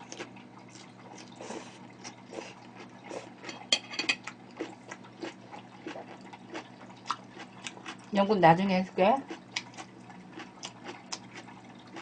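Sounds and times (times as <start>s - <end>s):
wet chewing and lip-smacking: 0.0s - 3.5s, 4.2s - 8.2s, 9.2s - 12.0s
faint electrical hum: 0.0s - 12.0s.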